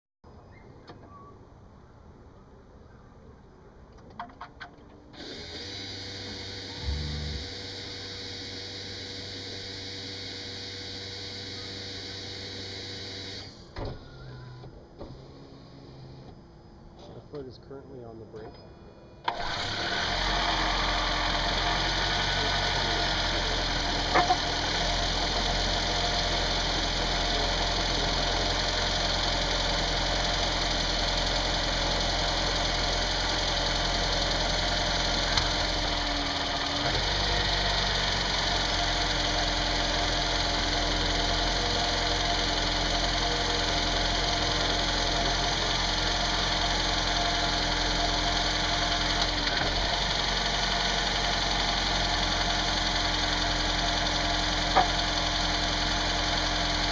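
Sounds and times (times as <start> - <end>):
car engine idling: 4.8 - 15.0, 19.2 - 56.9.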